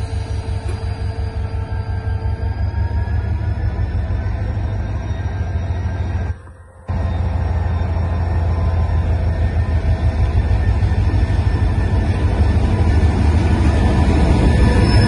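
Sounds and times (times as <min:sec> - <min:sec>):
locomotive engine droning: 0:00.0 - 0:15.0.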